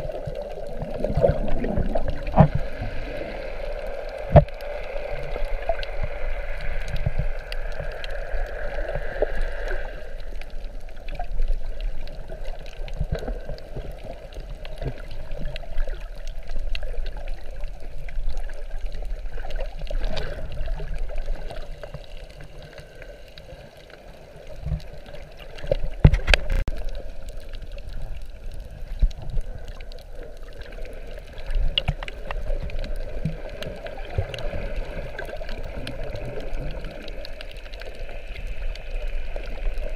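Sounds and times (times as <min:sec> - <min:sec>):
muffled water gurgling underwater: 0:00.0 - 0:39.9.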